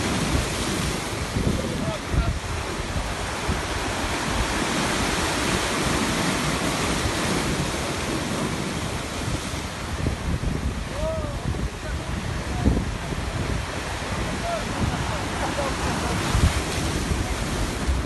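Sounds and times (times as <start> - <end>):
waves washing onto shore: 0.0 - 18.0
wind rumble on microphone: 0.0 - 18.0.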